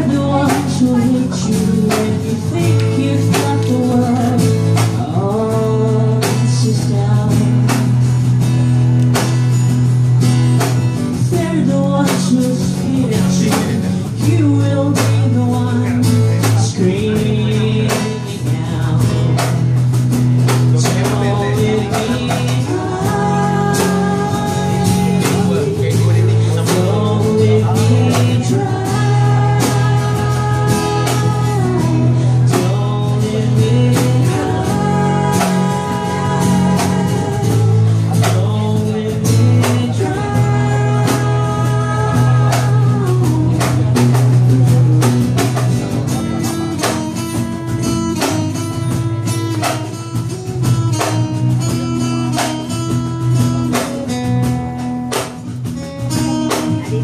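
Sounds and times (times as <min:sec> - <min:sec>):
held melody line: 0:00.0 - 0:57.0
live band playing: 0:00.0 - 0:57.0
strummed guitar: 0:00.0 - 0:57.0.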